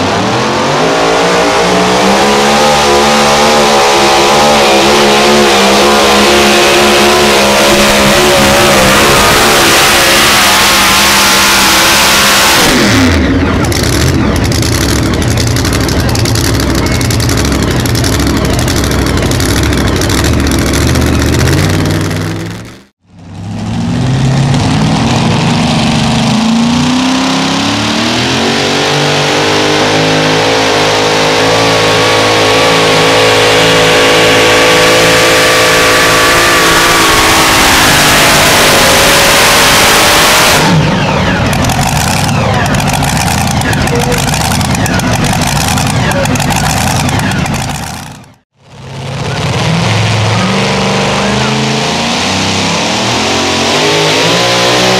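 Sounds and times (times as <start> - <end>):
another truck engine revving: 0.0 - 54.9
truck engine at full throttle: 0.0 - 54.9.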